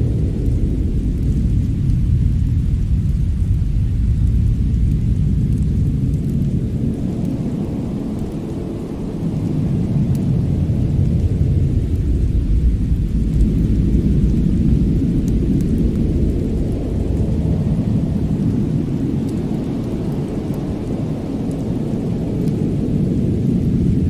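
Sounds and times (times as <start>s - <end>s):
fire crackles: 0.0s - 24.0s
fire rumbling: 0.0s - 24.0s.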